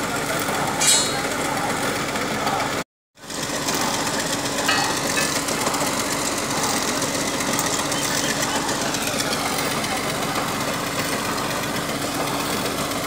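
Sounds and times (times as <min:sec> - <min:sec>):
drilling rig engine running: 0:00.0 - 0:13.0.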